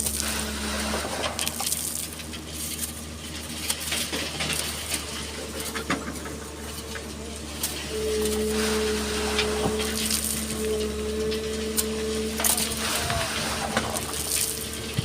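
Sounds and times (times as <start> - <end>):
excavator diesel engine running: 0.0 - 15.0
sand and gravel pouring: 0.0 - 15.0.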